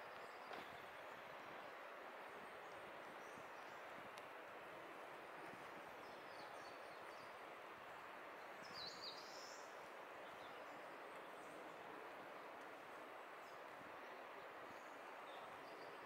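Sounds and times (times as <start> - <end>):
distant stream rushing: 0.0 - 16.0.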